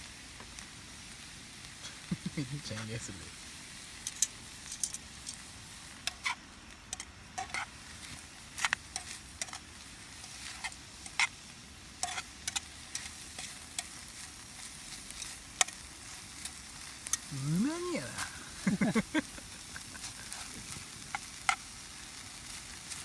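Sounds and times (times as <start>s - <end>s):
bacon sizzling over campfire: 0.0s - 23.0s
fire pops and crackles: 0.0s - 23.0s.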